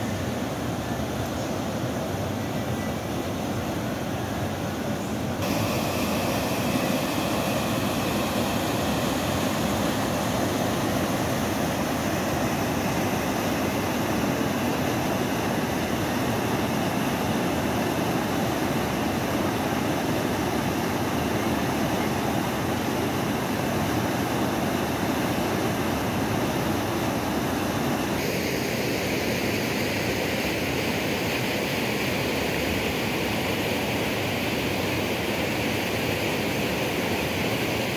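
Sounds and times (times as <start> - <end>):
floodwater rushing down channel: 0.0 - 37.9.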